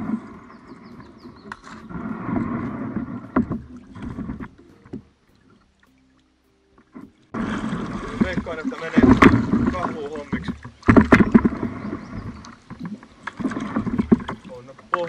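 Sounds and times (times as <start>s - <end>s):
paddle knocks: 0.0s - 5.1s, 6.8s - 15.0s
water splashing from paddling: 0.0s - 15.0s.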